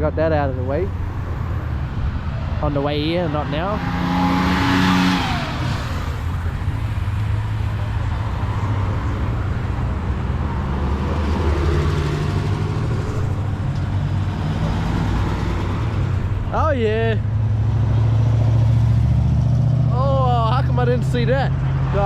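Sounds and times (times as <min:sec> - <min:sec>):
car engines low rumble: 0:00.0 - 0:22.0.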